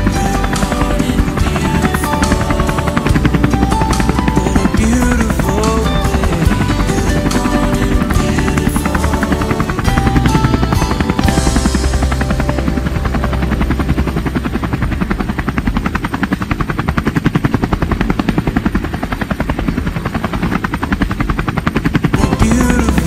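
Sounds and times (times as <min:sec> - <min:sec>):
helicopter rotor chopping: 0:00.0 - 0:23.0.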